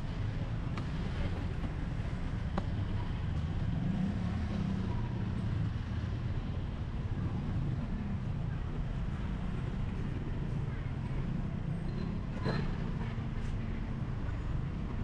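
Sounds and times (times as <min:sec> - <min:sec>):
motorbikes and cars passing: 0:00.0 - 0:15.0.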